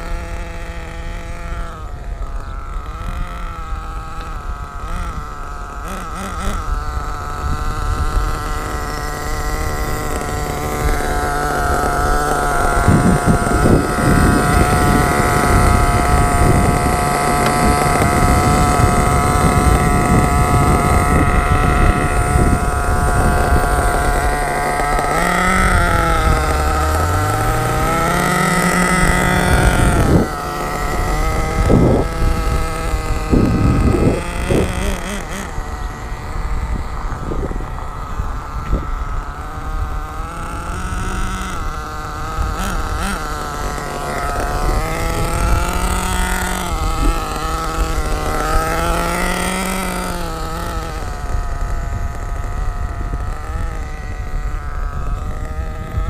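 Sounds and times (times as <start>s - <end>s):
model truck engine running: 0.0s - 56.0s.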